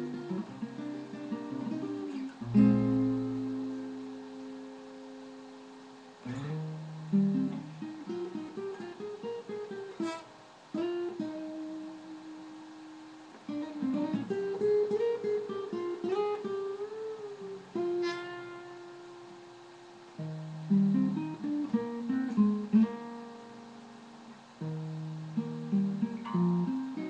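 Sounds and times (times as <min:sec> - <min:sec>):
acoustic guitar playing jazz: 0:00.0 - 0:27.0.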